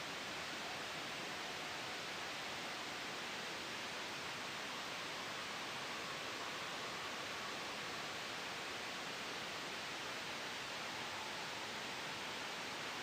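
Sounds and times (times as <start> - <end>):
white noise: 0.0 - 13.0.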